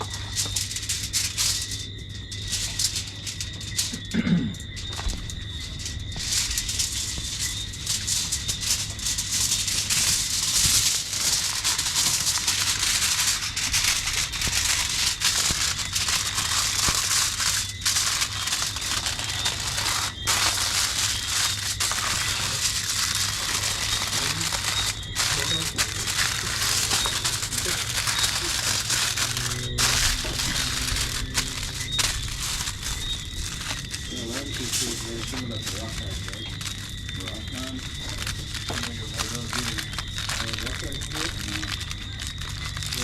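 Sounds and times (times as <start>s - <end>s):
wrapping crinkling and crackling: 0.0s - 43.0s.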